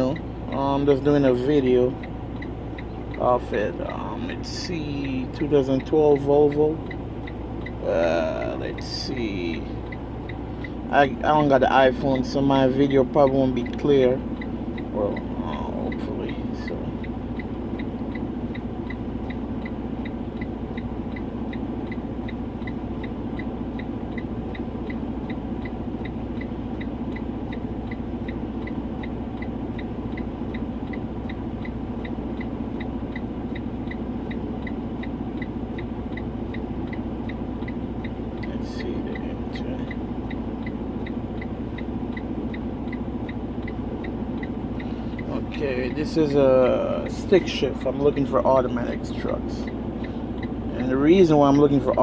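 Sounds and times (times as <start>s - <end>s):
rapid high-pitched beeping: 0.0s - 52.0s
steady low hum: 0.0s - 52.0s.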